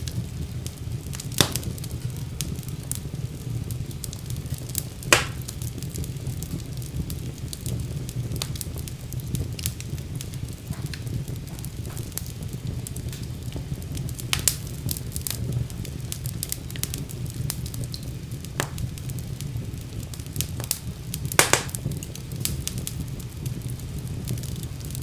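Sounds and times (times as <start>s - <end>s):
low fire rumble: 0.0s - 25.0s
wood fire crackling and popping: 0.0s - 25.0s.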